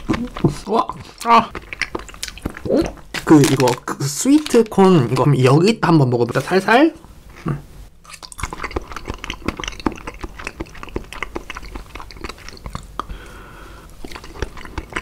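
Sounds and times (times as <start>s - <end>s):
chewing food: 0.0s - 4.6s, 7.3s - 15.0s.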